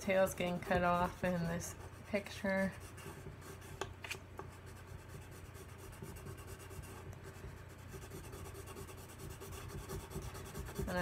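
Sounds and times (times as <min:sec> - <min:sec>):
pencil scratching on paper: 0:00.1 - 0:03.8, 0:04.6 - 0:11.0.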